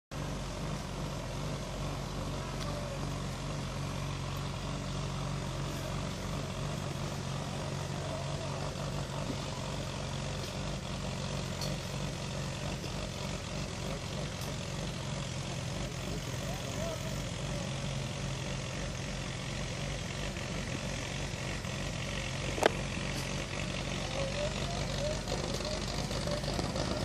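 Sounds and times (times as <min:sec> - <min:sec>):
engine idling: 0:00.1 - 0:27.0.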